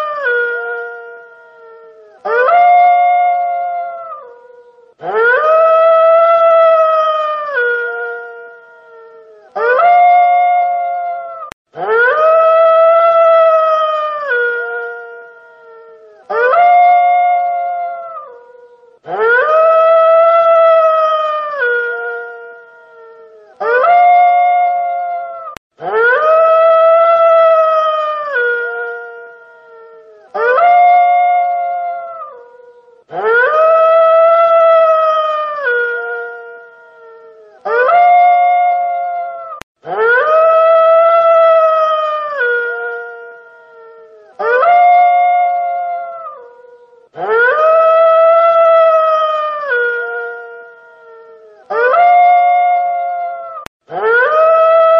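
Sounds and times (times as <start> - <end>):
wolf howling: 0.0 - 54.9.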